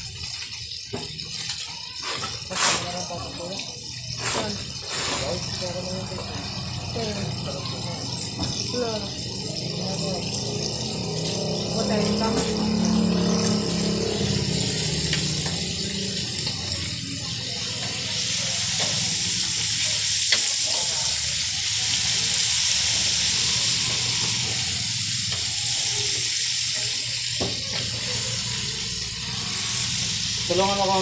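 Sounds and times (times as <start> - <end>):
chicken deep-frying in oil: 0.0 - 31.0.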